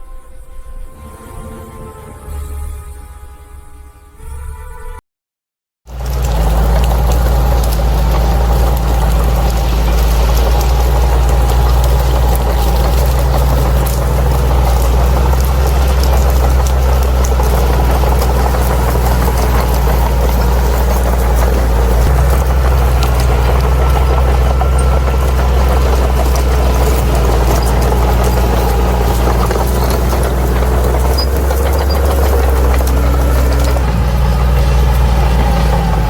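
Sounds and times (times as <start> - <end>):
bulldozer diesel engine rumbling: 5.9 - 36.0.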